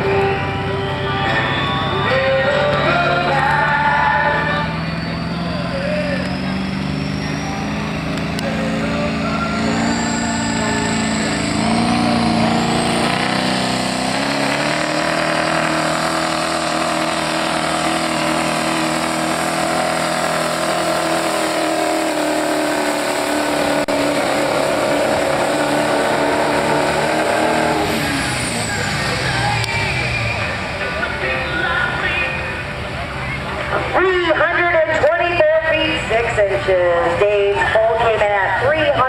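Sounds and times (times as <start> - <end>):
diesel engine under heavy load: 0.0 - 39.0
high turbo whine: 0.0 - 39.0.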